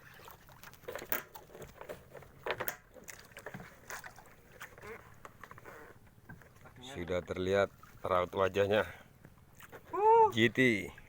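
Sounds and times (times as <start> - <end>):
knocks and clatter on a boat: 0.0 - 9.9.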